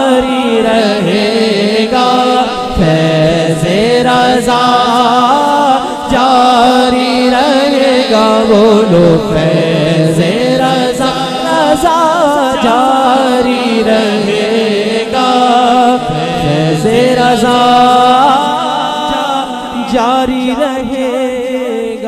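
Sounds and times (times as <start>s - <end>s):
man singing ornamented lead: 0.0s - 22.0s.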